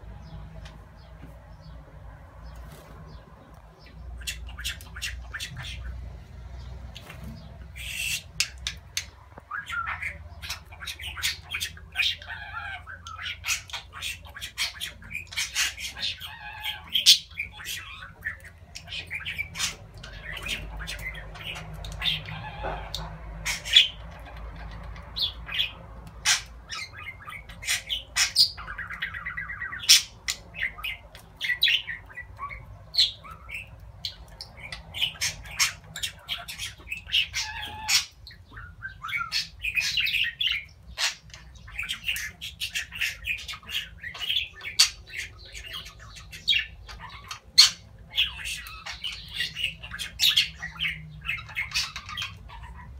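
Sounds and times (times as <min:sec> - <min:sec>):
budgerigars chattering: 0:03.1 - 0:06.0, 0:06.9 - 0:52.9.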